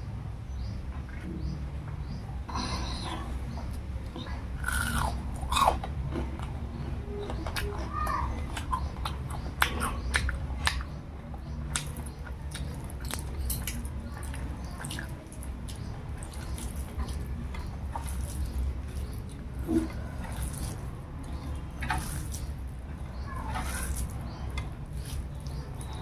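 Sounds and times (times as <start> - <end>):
low steady hum: 0.0 - 26.0
fingers squishing food: 3.7 - 26.0.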